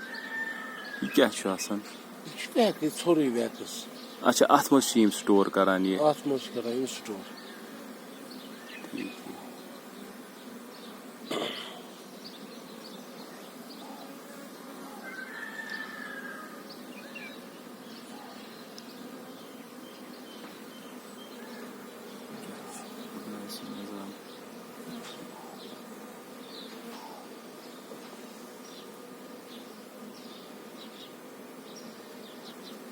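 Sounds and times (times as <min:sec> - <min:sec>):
honeybees buzzing: 0:00.0 - 0:32.9.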